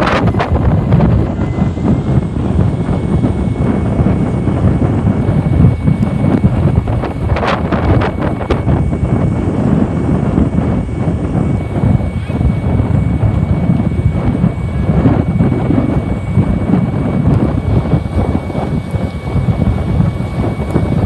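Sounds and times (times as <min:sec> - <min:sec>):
faint high whine: 0:00.0 - 0:21.0
wind buffeting microphone: 0:00.0 - 0:21.0.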